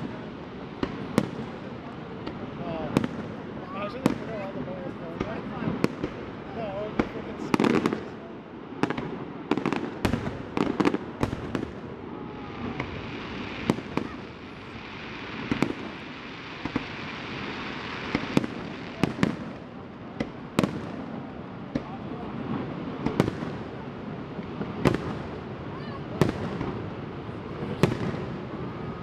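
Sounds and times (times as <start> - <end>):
fireworks bangs: 0.0 - 29.0
steady hiss: 4.9 - 29.0.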